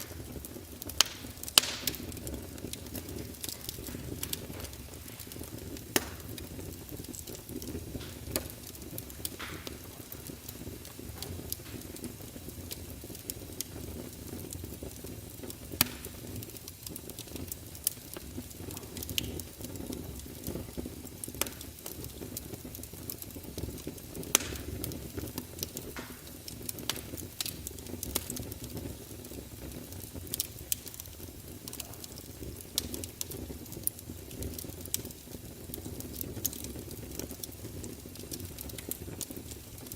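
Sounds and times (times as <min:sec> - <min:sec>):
fireplace fire crackling: 0:00.0 - 0:39.9
low rumble of flames: 0:00.0 - 0:39.9.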